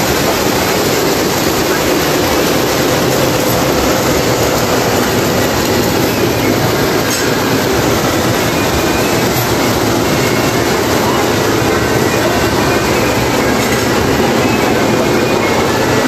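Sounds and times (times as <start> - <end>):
toy trains rumbling on metal track: 0.0 - 16.0.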